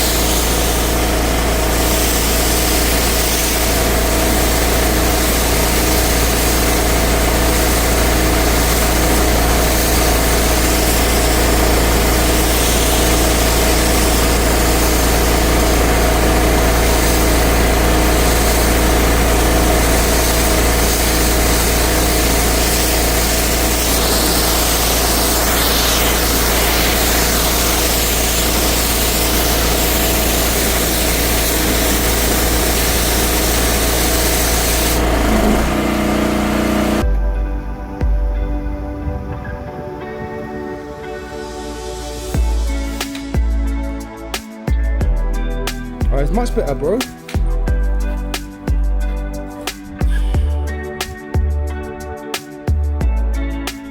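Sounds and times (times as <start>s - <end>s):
pressure washer running: 0.0s - 38.4s, 40.9s - 53.9s.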